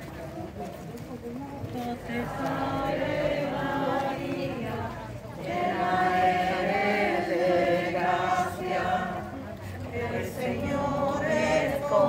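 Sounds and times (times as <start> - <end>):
many voices chanting prayer: 0.0 - 12.0.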